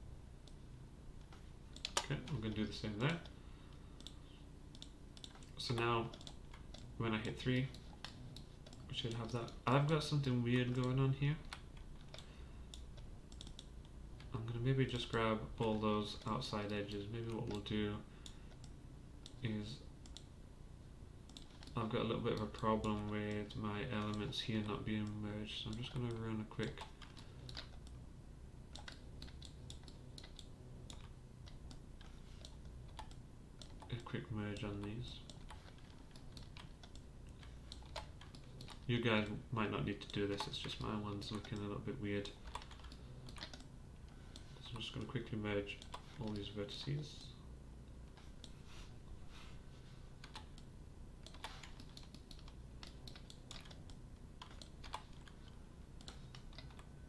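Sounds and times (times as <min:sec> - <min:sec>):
low steady hum: 0:00.0 - 0:57.0
keyboard and mouse clicking: 0:01.2 - 0:03.3, 0:04.0 - 0:19.4, 0:21.3 - 0:28.0, 0:28.7 - 0:43.7, 0:44.3 - 0:46.9, 0:50.2 - 0:56.9.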